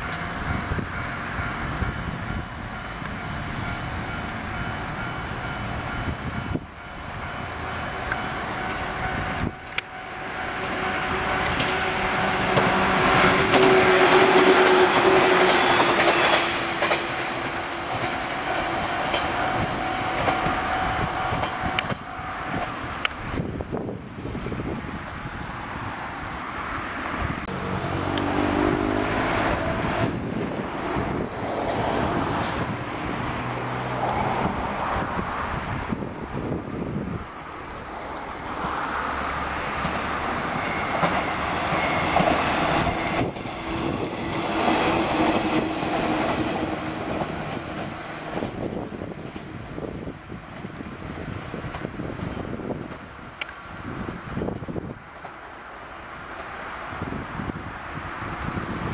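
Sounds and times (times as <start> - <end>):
electric train passing: 0.0 - 58.9.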